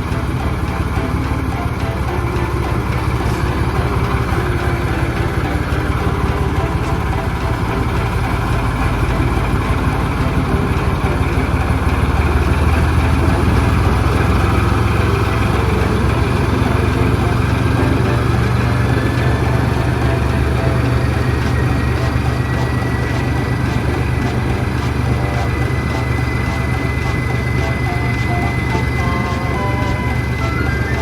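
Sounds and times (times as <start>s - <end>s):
diesel locomotive engine rumbling: 0.0s - 31.0s.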